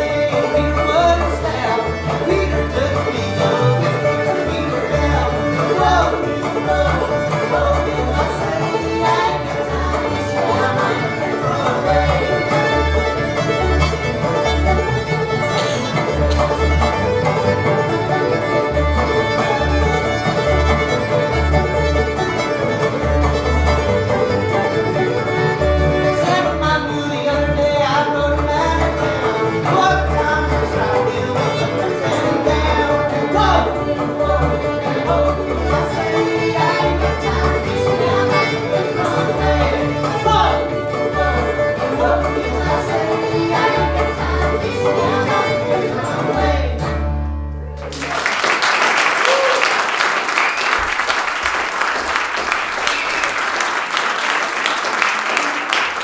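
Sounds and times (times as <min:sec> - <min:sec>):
fiddle: 0:00.0 - 0:47.9
acoustic guitar: 0:00.0 - 0:48.2
plucked upright bass: 0:00.0 - 0:48.2
banjo: 0:00.0 - 0:48.3.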